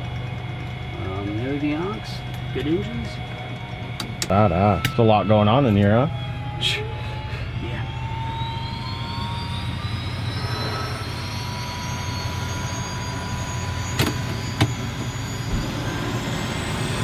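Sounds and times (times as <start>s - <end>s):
turbine whine: 0.0s - 17.0s
turboprop engine drone: 0.0s - 17.0s.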